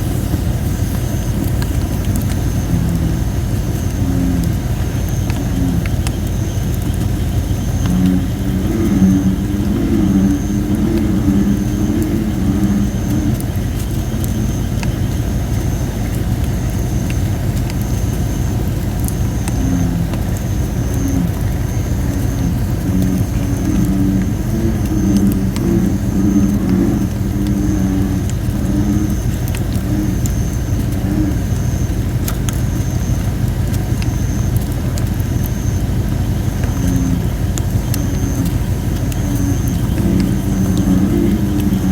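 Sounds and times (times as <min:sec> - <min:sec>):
bullfrogs croaking: 0:00.0 - 0:41.9
steady low rumble: 0:00.0 - 0:41.9
wood fire popping: 0:00.0 - 0:41.9.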